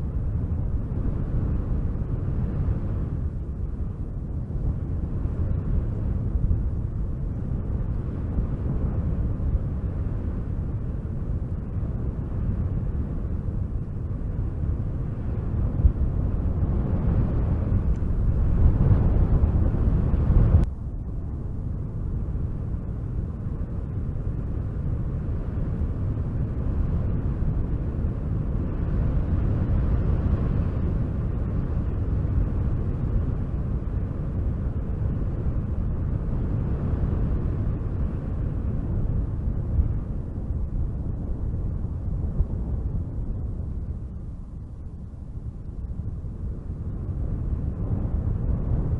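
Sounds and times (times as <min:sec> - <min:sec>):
wind blowing in gusts: 0:00.0 - 0:48.9.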